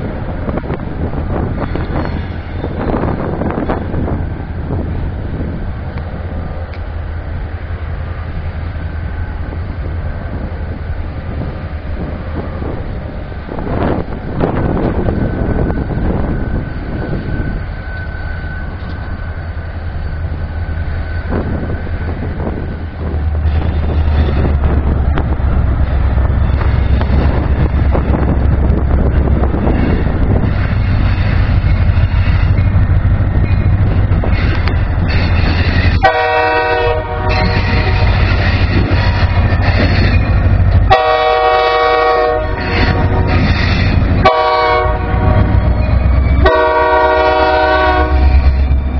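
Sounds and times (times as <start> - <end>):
wind on microphone: 0.0 - 19.3, 20.2 - 48.9
diesel locomotive engine rumble: 0.0 - 48.9.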